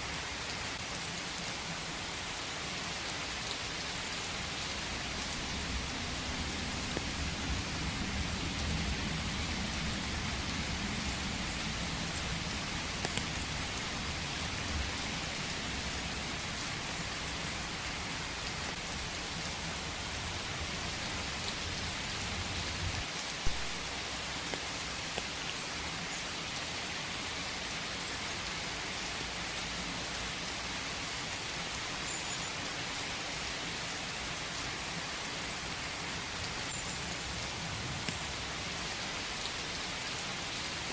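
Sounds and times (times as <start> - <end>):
rain on leaves: 0.0 - 40.9.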